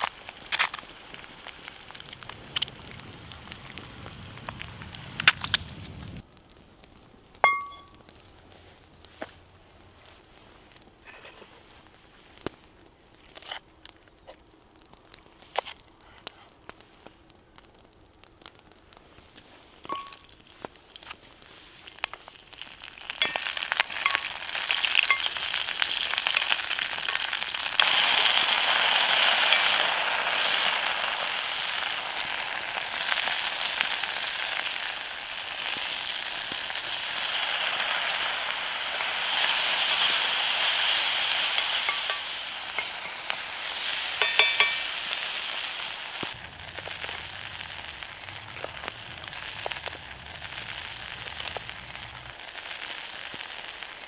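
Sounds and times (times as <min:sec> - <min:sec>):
onions sizzling in hot oil: 0:00.0 - 0:06.3, 0:07.4 - 0:12.3, 0:19.1 - 0:54.0.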